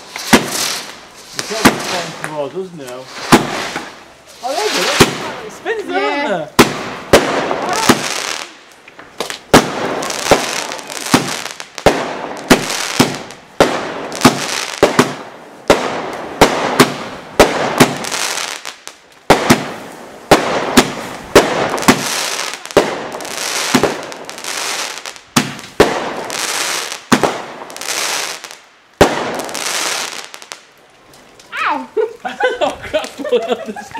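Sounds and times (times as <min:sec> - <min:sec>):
firework hiss: 0:00.0 - 0:05.7, 0:06.4 - 0:30.7
firework bangs: 0:00.0 - 0:30.7.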